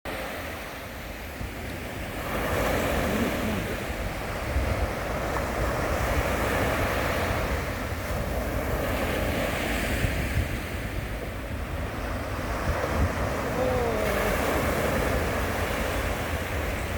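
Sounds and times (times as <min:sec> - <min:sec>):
sea surf breaking on shore: 0:00.1 - 0:16.9
wind rumbling on microphone: 0:00.1 - 0:16.9.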